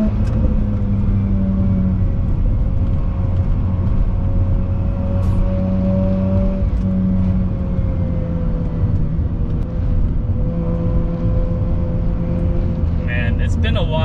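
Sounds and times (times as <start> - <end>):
car engine running: 0.0 - 14.0
low road rumble: 0.0 - 14.0.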